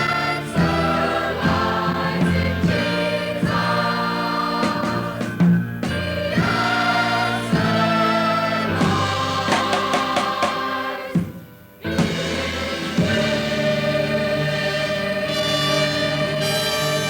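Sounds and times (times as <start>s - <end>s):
percussion hits: 0.0s - 14.0s
instrumental backing: 0.0s - 17.0s
vocal group singing gospel chords: 0.0s - 17.0s.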